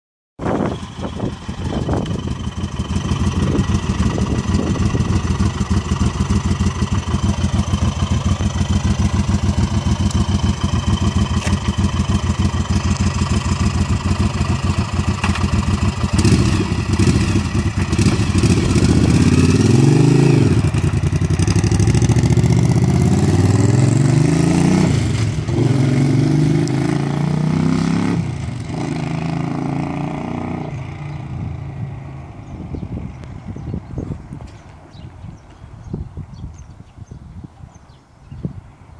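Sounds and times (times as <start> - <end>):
motorcycle engine idling and revving: 0.4 - 36.6.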